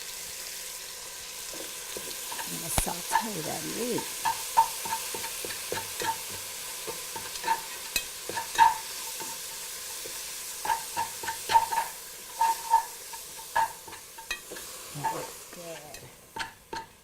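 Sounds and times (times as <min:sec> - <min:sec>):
meat sizzling in a pan: 0:00.0 - 0:17.0
utensil scraping a pan: 0:01.5 - 0:17.0.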